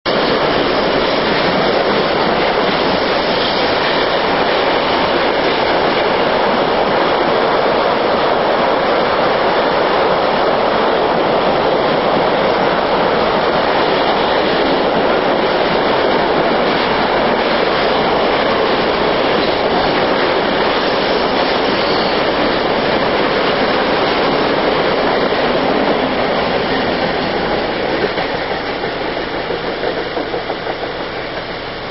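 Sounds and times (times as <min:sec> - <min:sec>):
train wheels on rails: 0:00.1 - 0:31.9.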